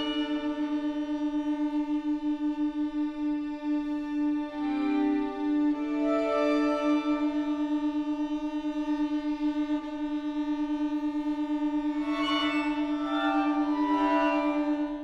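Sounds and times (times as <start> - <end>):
string ensemble playing: 0.0 - 15.0.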